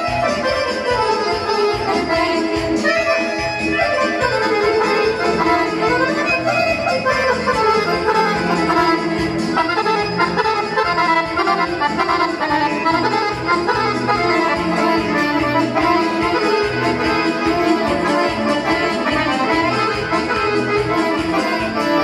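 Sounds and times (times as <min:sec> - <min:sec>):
accordion playing folk dance tune: 0:00.0 - 0:22.0.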